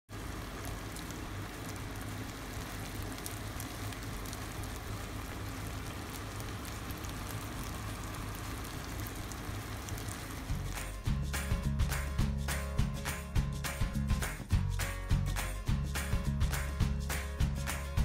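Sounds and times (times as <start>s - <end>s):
pork sizzling in a pan: 0.1s - 18.0s.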